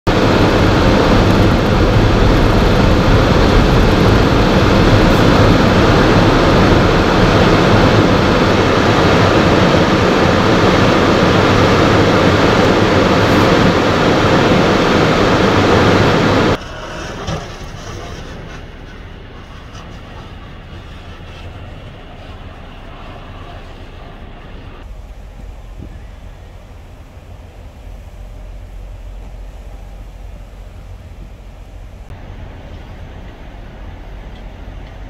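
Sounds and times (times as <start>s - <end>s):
storm wind on microphone: 0.1s - 17.2s, 18.4s - 35.0s.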